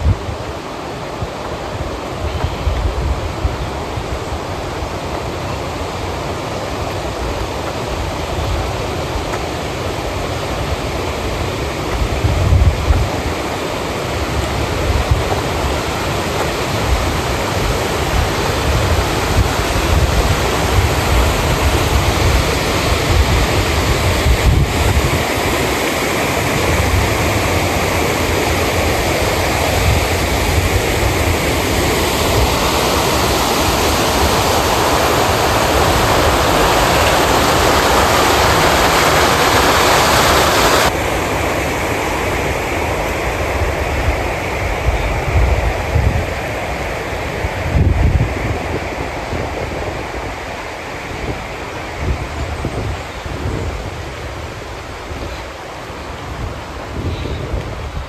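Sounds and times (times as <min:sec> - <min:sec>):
rushing water: 0:00.0 - 0:58.0
wind buffeting microphone: 0:00.0 - 0:58.0.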